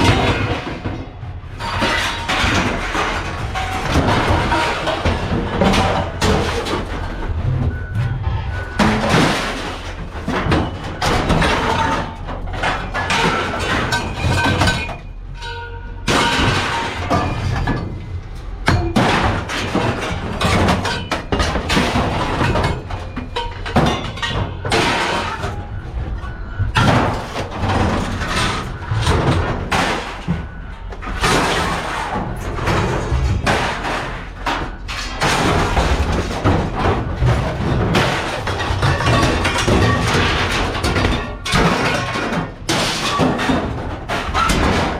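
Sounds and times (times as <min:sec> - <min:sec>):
scrap metal clanking onto pile: 0:00.0 - 0:44.9.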